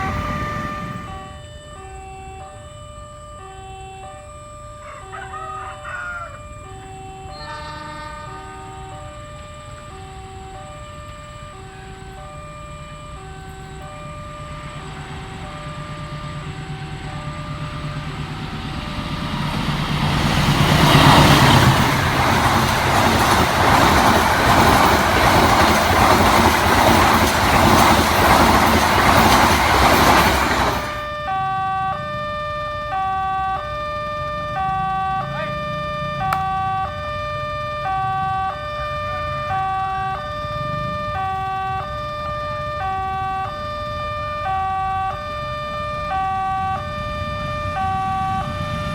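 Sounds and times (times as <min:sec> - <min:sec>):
train passing at speed: 0:00.0 - 0:02.2, 0:04.0 - 0:48.9
two-tone crossing alarm chime: 0:00.0 - 0:48.9.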